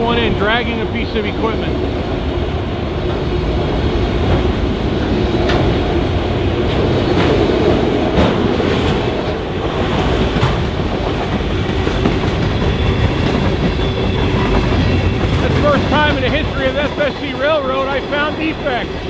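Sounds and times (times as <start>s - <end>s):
freight train wheels rumbling: 0.0s - 19.0s
wheels clacking over rail joints: 2.1s - 19.0s.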